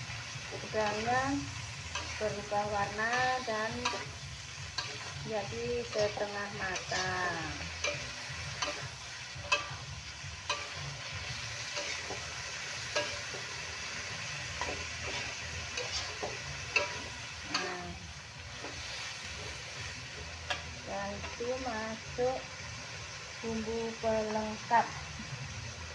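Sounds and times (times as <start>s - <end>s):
food sizzling in a wok: 0.0s - 25.9s
metal spatula scraping a pan: 0.5s - 21.4s.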